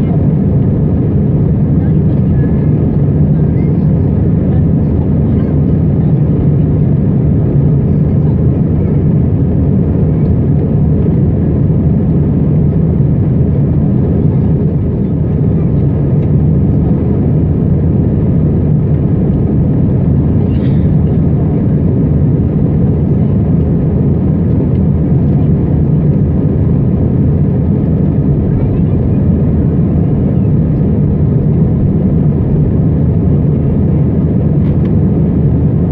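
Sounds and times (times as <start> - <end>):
airplane cabin engine roar: 0.0 - 35.9.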